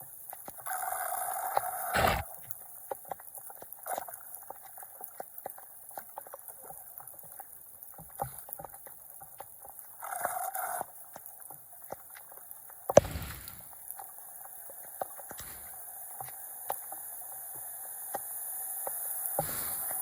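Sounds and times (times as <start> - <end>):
small clicks and knocks: 2.4 - 20.0.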